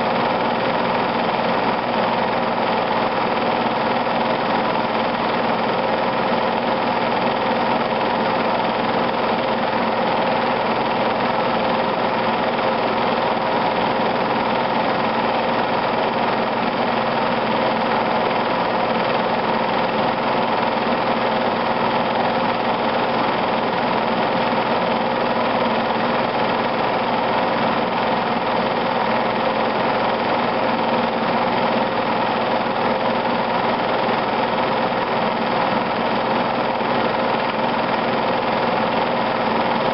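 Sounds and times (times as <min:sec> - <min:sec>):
film projector humming: 0:00.0 - 0:39.9.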